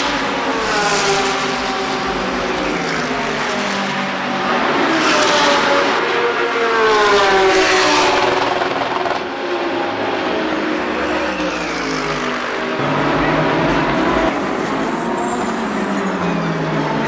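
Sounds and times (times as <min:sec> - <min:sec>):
race car engines passing at speed: 0:00.0 - 0:17.0.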